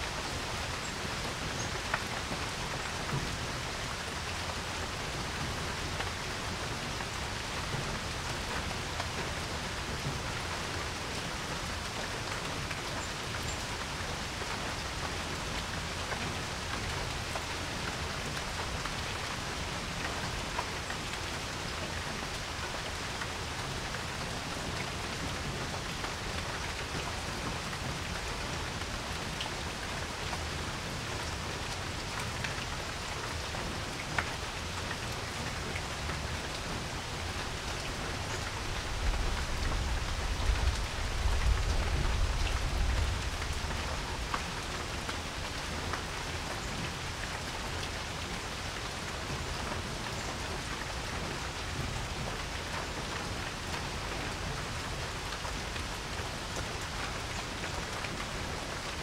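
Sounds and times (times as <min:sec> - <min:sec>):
rain falling on porch: 0:00.0 - 0:59.0.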